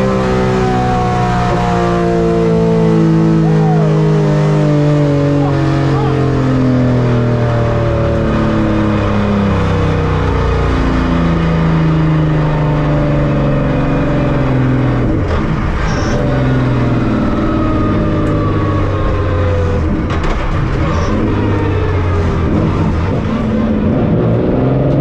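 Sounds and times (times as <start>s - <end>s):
car engine running loudly: 0.0s - 25.0s.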